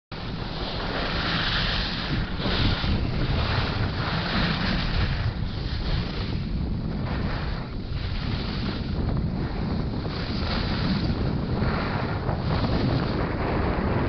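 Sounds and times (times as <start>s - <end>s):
wind buffeting microphone: 0.1s - 14.0s
skis carving on packed snow: 0.5s - 6.4s, 7.0s - 14.0s.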